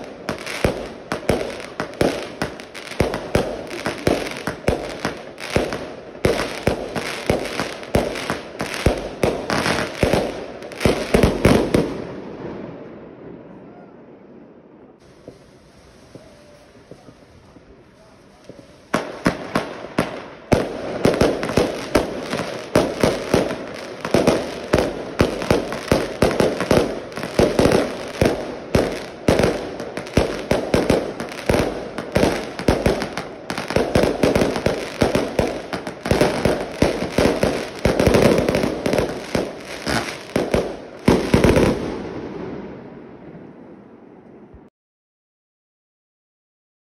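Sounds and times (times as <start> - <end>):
fireworks bangs and crackling: 0.0 - 13.5, 15.0 - 44.7.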